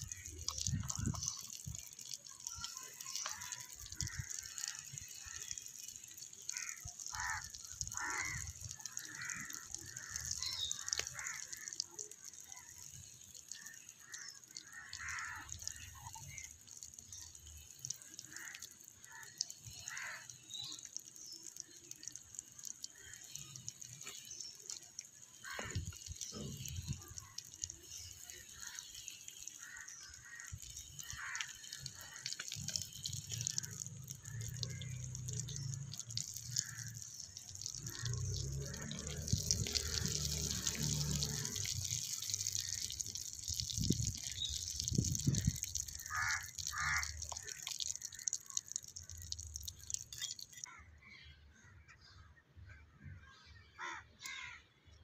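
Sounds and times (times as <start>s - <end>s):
oil sizzling and crackling: 0.0s - 50.8s.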